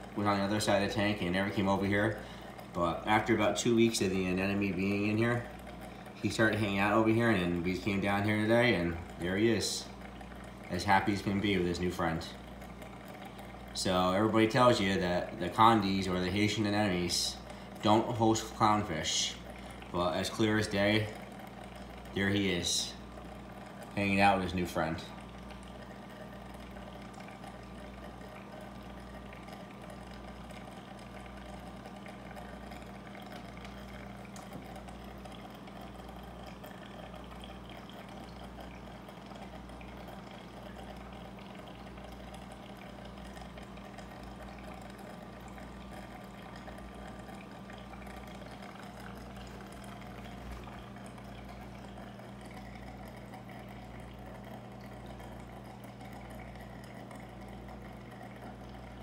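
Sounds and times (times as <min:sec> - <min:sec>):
aquarium pumps humming: 0:00.0 - 0:59.0.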